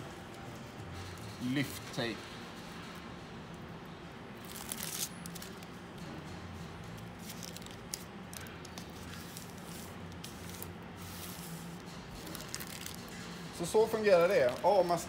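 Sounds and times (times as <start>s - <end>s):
tape rustling and crackling: 0.3s - 15.0s.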